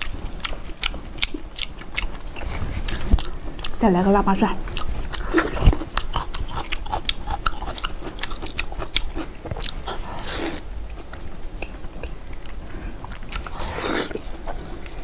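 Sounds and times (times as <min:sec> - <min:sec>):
chewing crunchy food: 0:00.0 - 0:03.8, 0:04.6 - 0:15.0.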